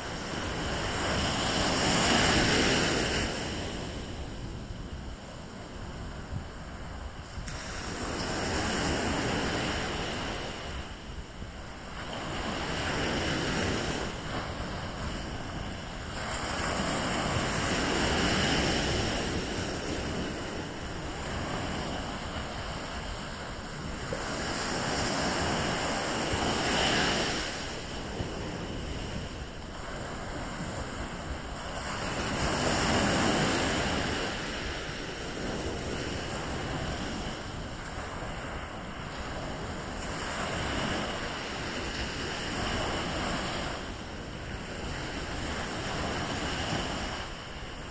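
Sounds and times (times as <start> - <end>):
sea waves breaking on beach: 0.0 - 47.9
wind buffeting microphone: 0.0 - 47.9.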